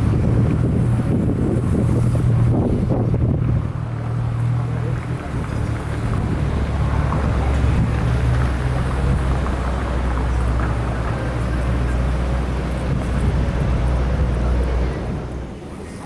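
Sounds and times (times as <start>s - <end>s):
constant rushing noise: 0.0s - 16.0s
low engine drone: 0.0s - 16.0s.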